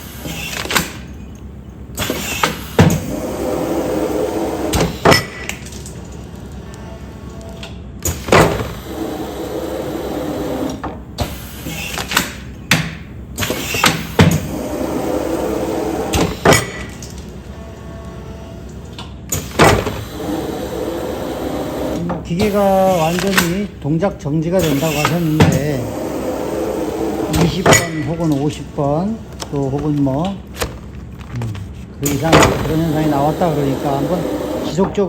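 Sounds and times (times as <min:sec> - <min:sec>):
sealing machine hum: 0:00.0 - 0:35.0.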